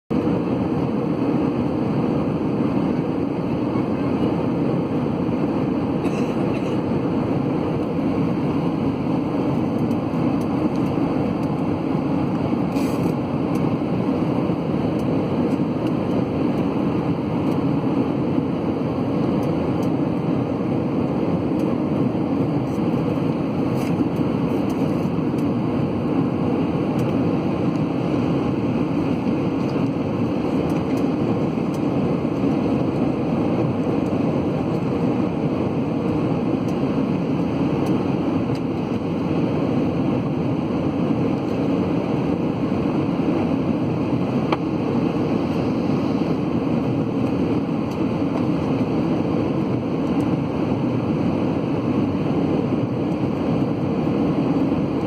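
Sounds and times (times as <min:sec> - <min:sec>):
airplane cabin rumble: 0:00.1 - 0:55.0.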